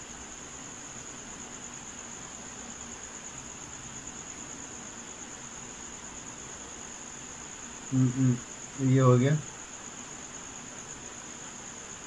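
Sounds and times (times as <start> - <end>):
cricket trilling: 0.0 - 12.0
low even hiss: 0.0 - 12.0.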